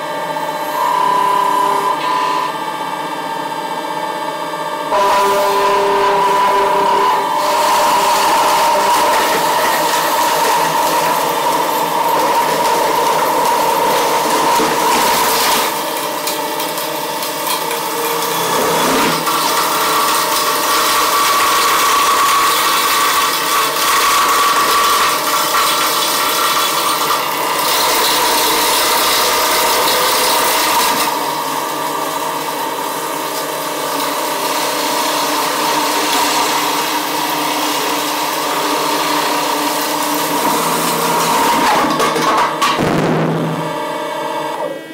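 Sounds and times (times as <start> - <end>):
milling machine spindle whine: 0.0 - 42.4, 43.6 - 44.9.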